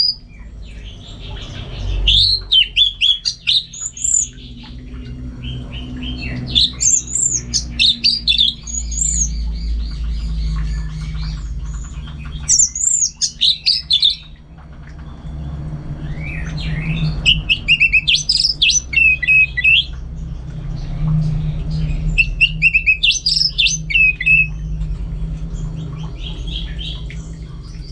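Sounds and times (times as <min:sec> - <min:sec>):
low hum: 0:00.0 - 0:27.9.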